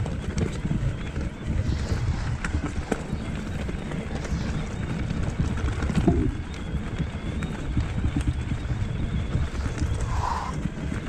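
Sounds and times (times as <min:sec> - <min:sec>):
bike rattling over stones: 0:00.0 - 0:11.0
bike tyres rumbling on stony trail: 0:00.0 - 0:11.0.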